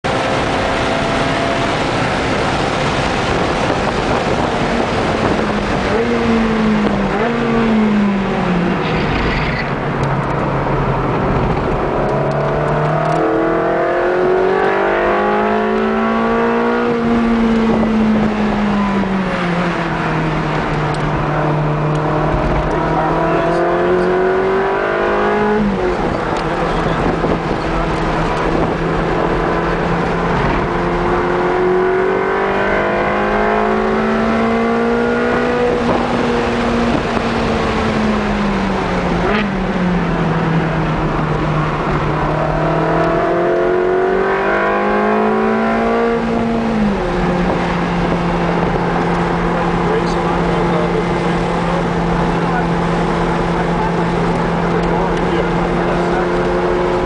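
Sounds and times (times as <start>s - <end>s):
car engine revving: 0.0s - 57.0s
wind noise: 0.1s - 49.8s.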